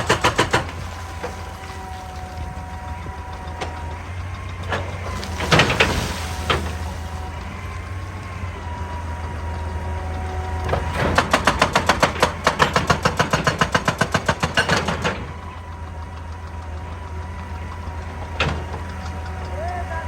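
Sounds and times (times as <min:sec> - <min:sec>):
hydraulic breaker hammering rock: 0:00.0 - 0:16.2
diesel engine running: 0:00.0 - 0:20.0.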